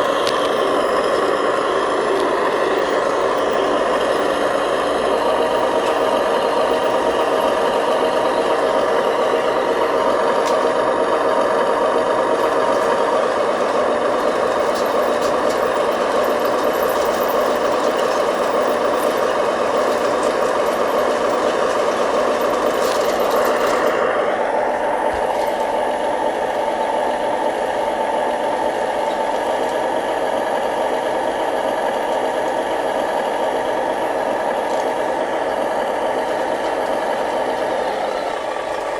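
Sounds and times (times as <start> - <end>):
small motors droning: 0.0 - 38.9.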